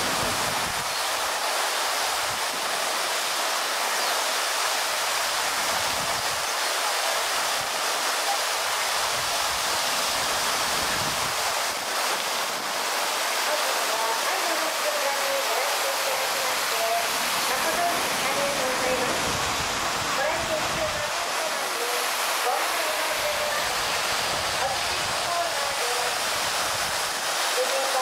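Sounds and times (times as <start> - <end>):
fountain water spraying: 0.0 - 28.0.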